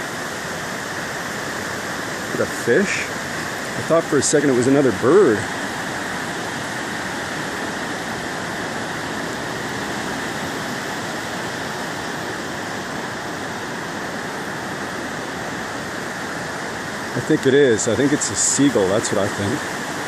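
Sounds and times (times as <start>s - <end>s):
ocean surf on a beach: 0.0s - 20.0s.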